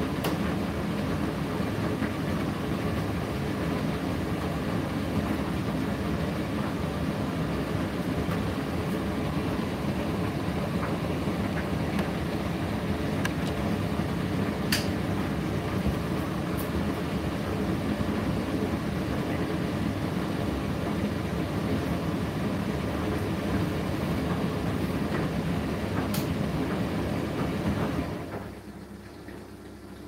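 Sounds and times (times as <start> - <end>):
tumble dryer running: 0.0 - 30.0.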